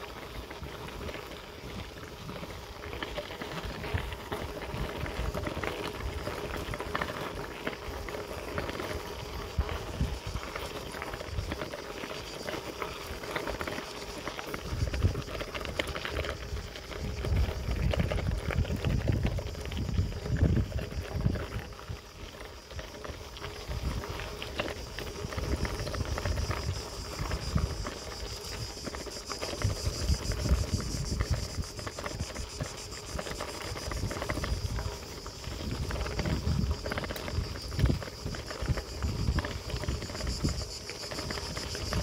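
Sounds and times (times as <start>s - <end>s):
bicycle tyres crunching on gravel: 0.0s - 42.0s
wind buffeting microphone: 3.1s - 12.4s, 14.0s - 42.0s.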